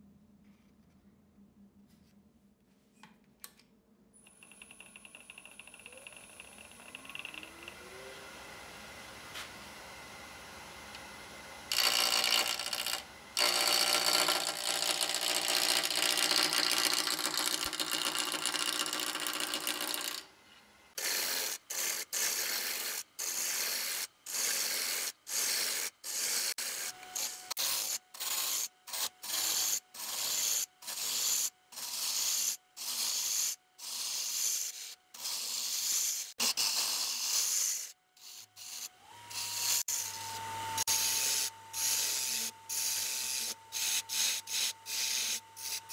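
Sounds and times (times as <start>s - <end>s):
gouge cutting wood on a lathe: 4.6s - 9.3s, 11.7s - 20.2s, 21.0s - 45.9s.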